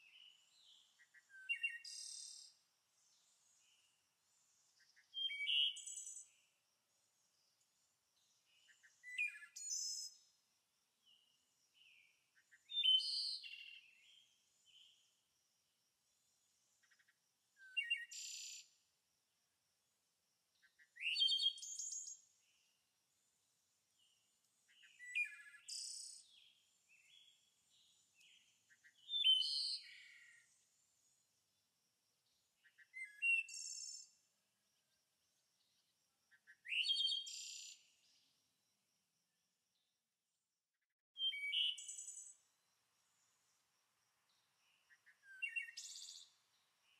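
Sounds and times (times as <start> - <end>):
songbird chirping: 0.0 - 40.4, 41.2 - 46.9.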